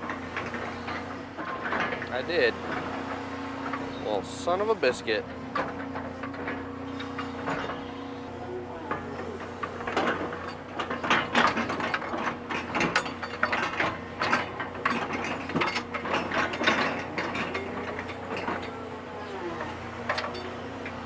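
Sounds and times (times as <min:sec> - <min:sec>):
metal clanking and rattling: 0:00.0 - 0:04.2, 0:04.9 - 0:08.0, 0:08.9 - 0:21.0
excavator engine humming: 0:00.0 - 0:21.0.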